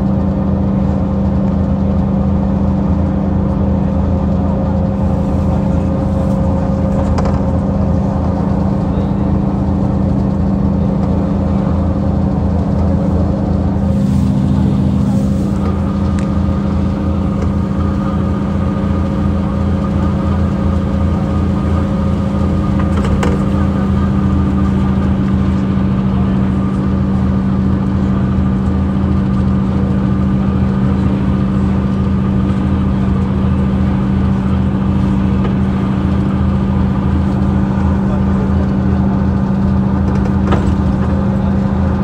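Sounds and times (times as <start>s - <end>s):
bus diesel engine drone: 0.0s - 42.0s.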